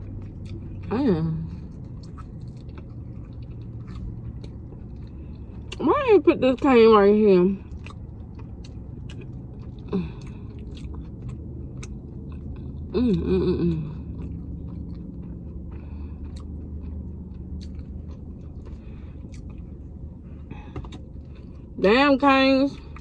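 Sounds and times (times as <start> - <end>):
person chewing food: 0.0 - 5.8, 7.6 - 21.8, 22.8 - 23.0.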